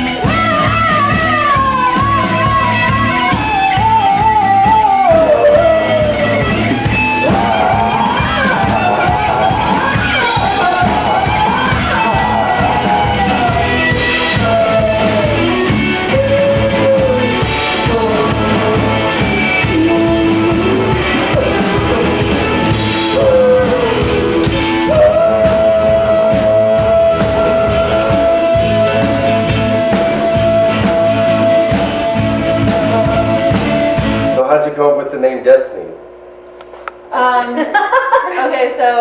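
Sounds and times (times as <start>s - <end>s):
electric guitar: 0.0s - 34.4s
person singing: 0.0s - 34.4s
drum kit with cymbals: 0.0s - 34.5s.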